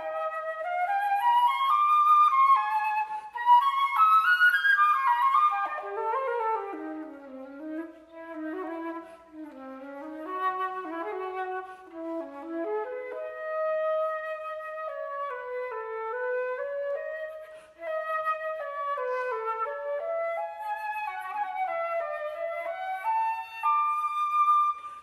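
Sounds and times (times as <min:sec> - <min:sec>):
solo flute melody: 0:00.0 - 0:25.0.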